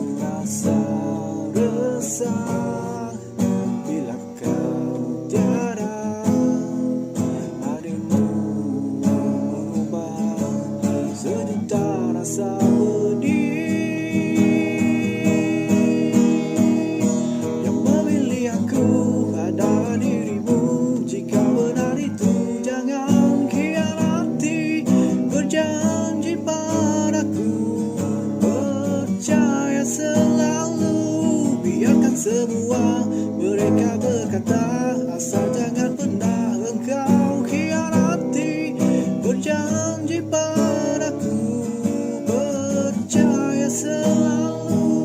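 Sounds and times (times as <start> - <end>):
acoustic guitar strumming: 0.0 - 45.0
person singing: 0.0 - 45.0.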